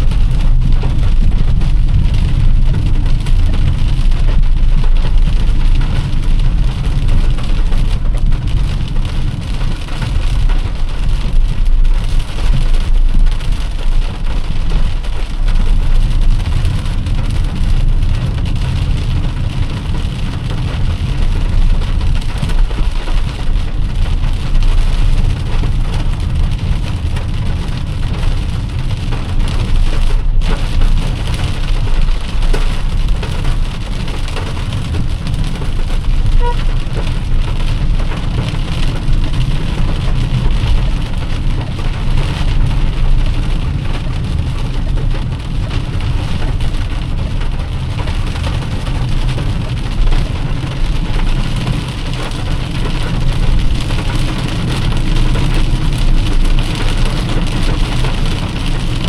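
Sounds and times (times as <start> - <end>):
car road rumble: 0.0 - 59.0
heavy rain on a car: 0.0 - 59.0.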